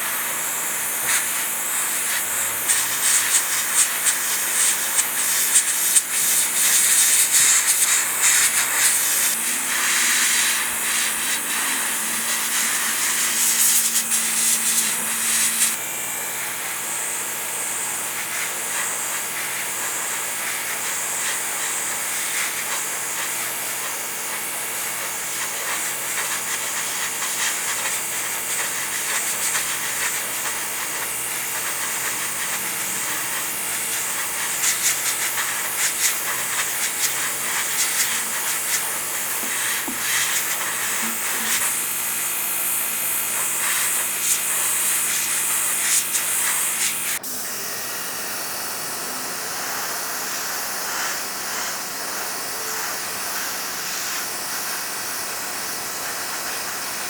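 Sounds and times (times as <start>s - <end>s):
compressed air spraying hiss: 0.0s - 15.8s, 18.0s - 47.2s, 49.7s - 54.8s.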